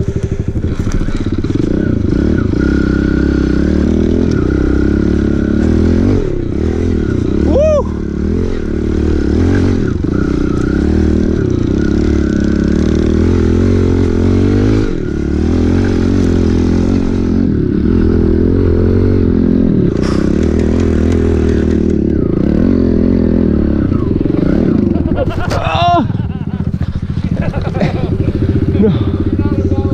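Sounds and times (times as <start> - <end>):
pit bike engine revving: 0.0 - 29.9.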